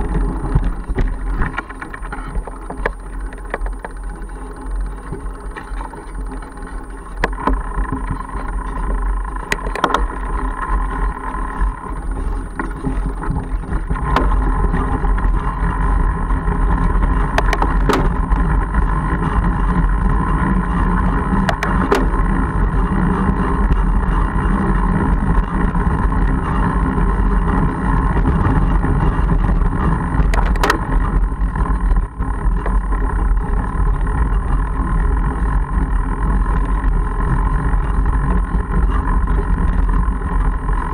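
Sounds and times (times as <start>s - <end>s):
bike clicks and rattles: 0.0s - 40.9s
bike tyres rolling on gravel: 0.0s - 40.9s
wind on microphone: 0.0s - 40.9s.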